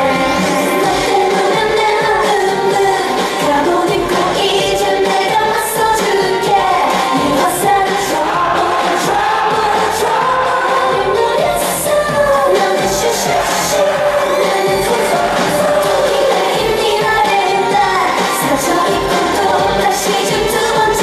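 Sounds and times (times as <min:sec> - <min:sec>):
pop dance song with female vocals: 0:00.0 - 0:21.0.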